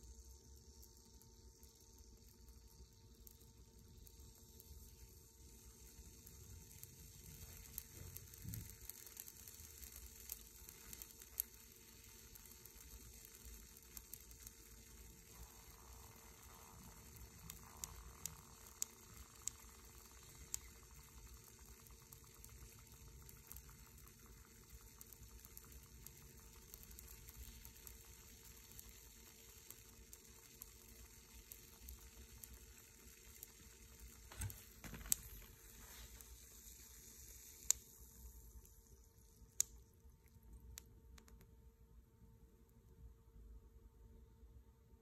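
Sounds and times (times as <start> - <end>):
sharp crackles of sparks: 0.0 - 41.5
faint steady hiss: 0.0 - 45.0.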